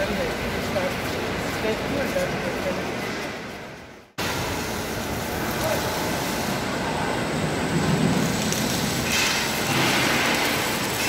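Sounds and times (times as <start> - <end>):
factory machinery din: 0.0 - 11.0.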